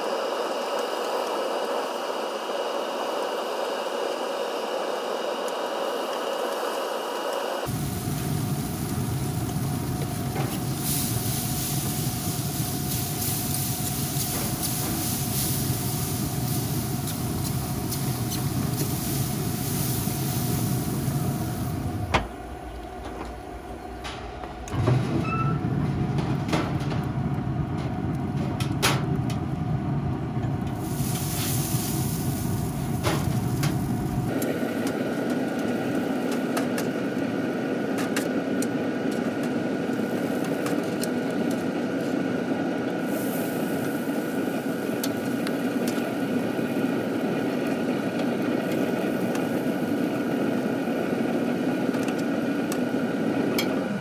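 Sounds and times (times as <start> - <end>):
pellet grill humming: 0.0 - 54.0.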